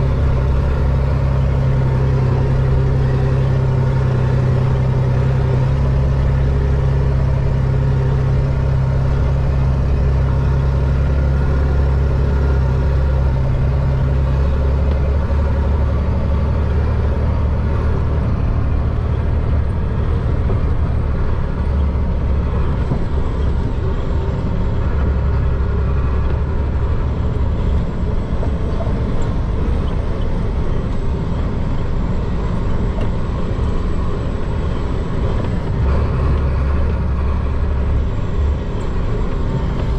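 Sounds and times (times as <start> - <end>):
road and drivetrain noise: 0.0 - 39.9
truck diesel engine running: 0.0 - 39.9.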